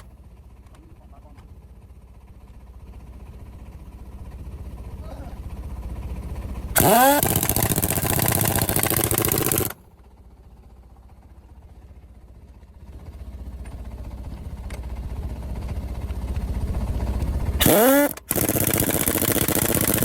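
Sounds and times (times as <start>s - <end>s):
engine rumbling: 0.0s - 20.0s.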